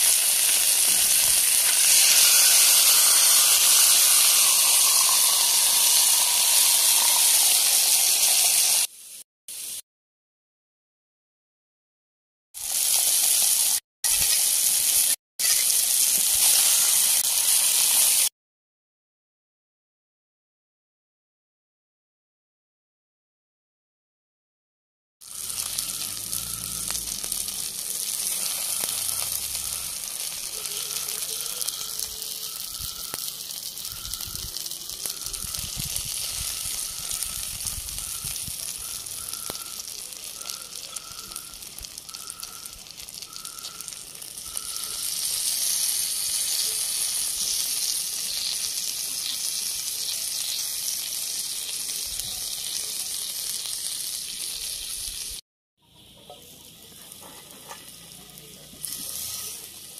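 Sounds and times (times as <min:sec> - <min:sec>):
chicken sizzling in oil: 0:00.0 - 0:09.8, 0:12.6 - 0:18.3, 0:25.2 - 0:55.4, 0:56.0 - 0:59.9.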